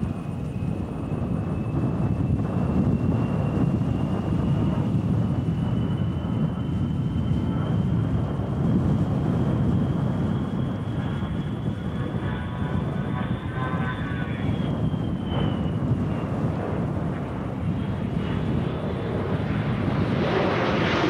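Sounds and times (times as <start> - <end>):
high engine whine: 0.0 - 21.0
jet engines rumbling: 0.0 - 21.0.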